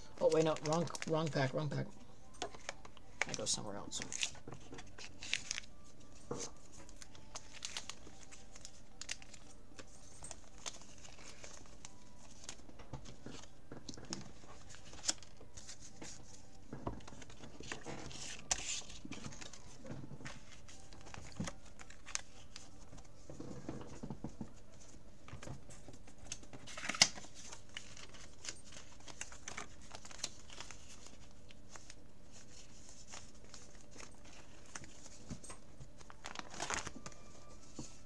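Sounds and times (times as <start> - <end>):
plastic sleeves rustling and crinkling: 0.0 - 38.0.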